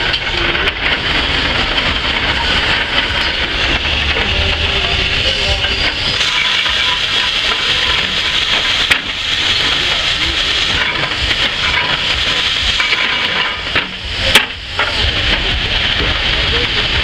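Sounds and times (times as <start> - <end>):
low rumble: 0.0 - 17.0
steam hissing: 0.0 - 17.0.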